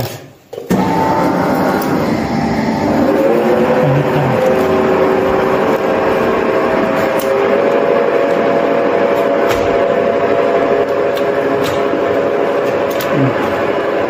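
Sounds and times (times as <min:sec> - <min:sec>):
lathe whining hum: 0:00.7 - 0:14.0.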